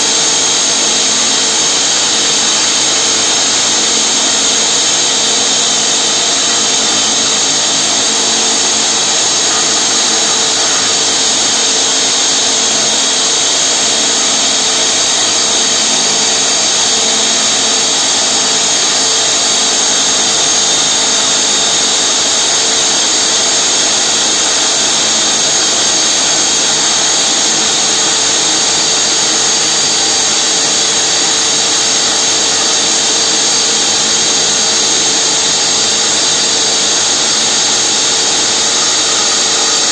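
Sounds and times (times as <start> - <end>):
hydraulic rock drill drilling: 0.0 - 39.9.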